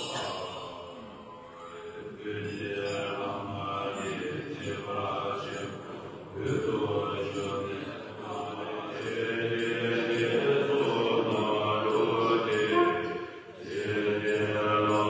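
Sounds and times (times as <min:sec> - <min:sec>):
monks chanting in deep voices: 0:00.0 - 0:15.0.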